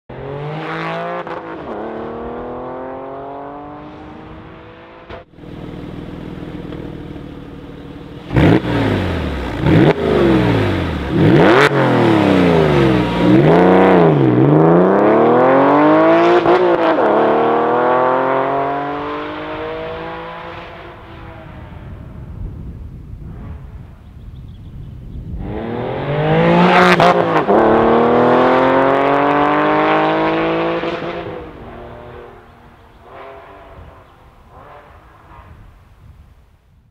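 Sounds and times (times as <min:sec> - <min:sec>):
car engine revving and accelerating: 0:00.1 - 0:06.7, 0:08.2 - 0:21.9, 0:25.3 - 0:35.4.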